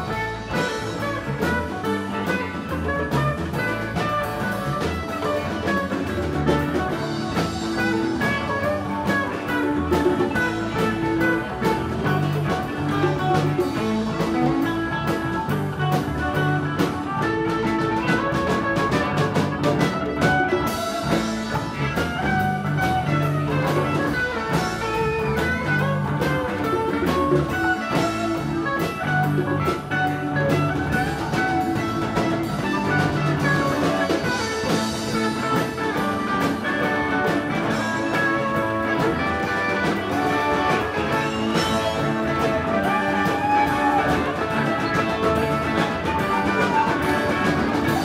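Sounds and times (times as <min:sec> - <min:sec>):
drum kit beat: 0:00.0 - 0:48.0
guitar lines: 0:00.0 - 0:48.0.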